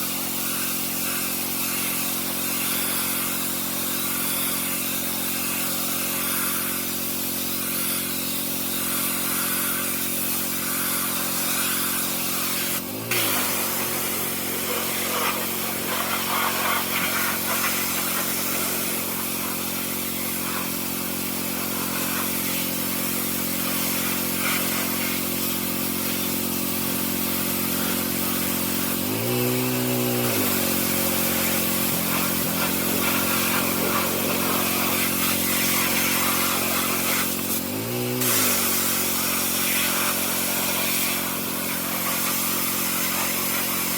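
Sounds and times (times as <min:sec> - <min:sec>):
pressure washer engine running: 0:00.0 - 0:43.9
water spray hissing: 0:00.0 - 0:43.9.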